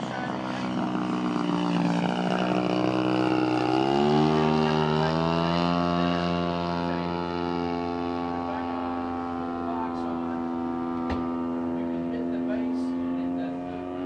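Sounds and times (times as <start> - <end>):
model airplane engine running: 0.0 - 14.0.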